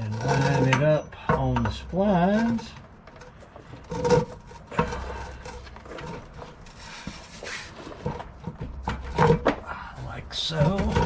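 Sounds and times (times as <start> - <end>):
metal knocking and scraping: 0.0 - 11.0
small clunks and rubbing: 0.0 - 11.0.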